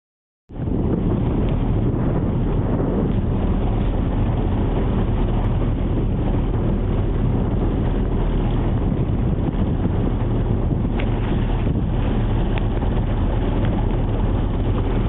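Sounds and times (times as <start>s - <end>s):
boat engine rumbling: 0.5s - 15.0s
wind on microphone: 0.5s - 15.0s.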